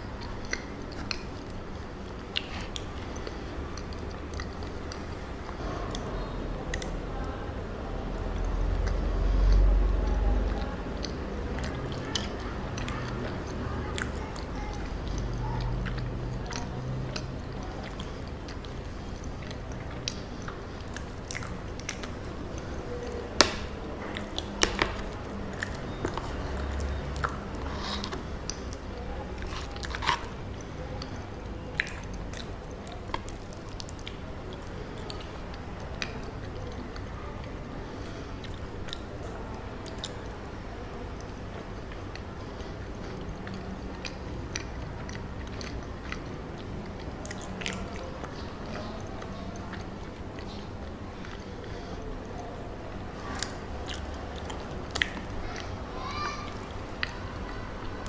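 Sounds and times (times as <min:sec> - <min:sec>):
chewing and biting food: 0:00.0 - 0:07.3, 0:08.0 - 0:58.0.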